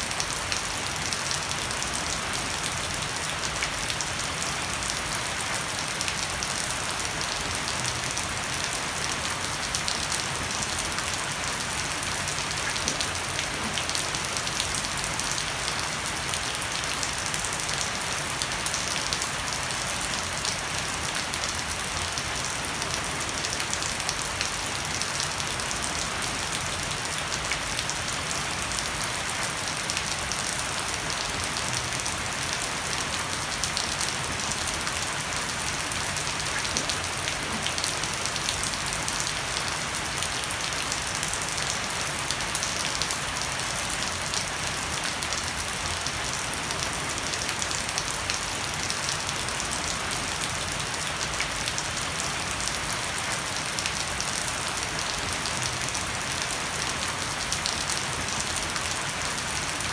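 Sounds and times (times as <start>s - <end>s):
heavy rain on deck and plants: 0.0s - 59.9s.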